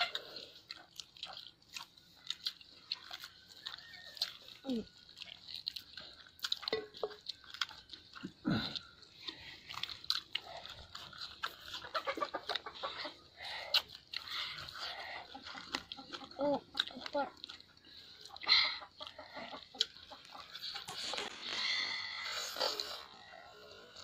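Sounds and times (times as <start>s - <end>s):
chewing and lip smacking: 0.0s - 24.0s.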